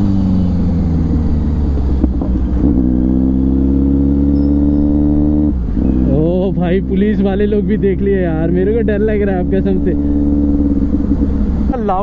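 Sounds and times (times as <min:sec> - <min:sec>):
loud motorcycle engine: 0:00.0 - 0:12.0.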